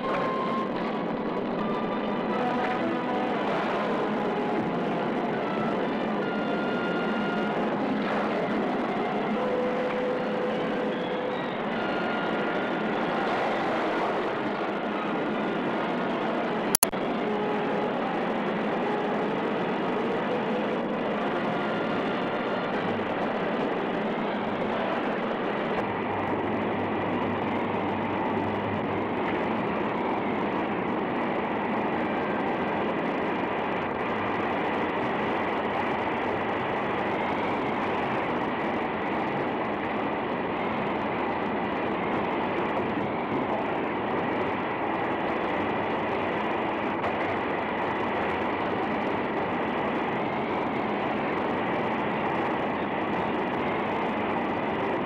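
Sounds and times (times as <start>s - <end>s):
steam hissing from pipes: 0.0s - 55.0s.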